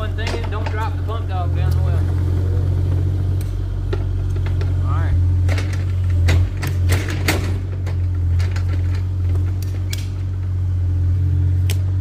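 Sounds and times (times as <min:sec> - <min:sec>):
excavator diesel engine idling: 0:00.0 - 0:12.0.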